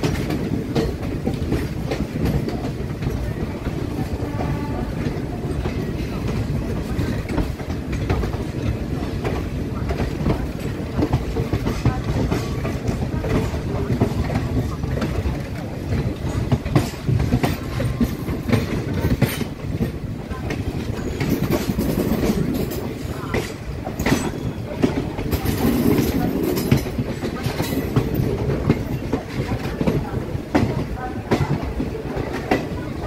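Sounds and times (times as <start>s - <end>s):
train low rumble: 0.0s - 33.0s
wheels clicking over rail joints: 0.0s - 33.0s.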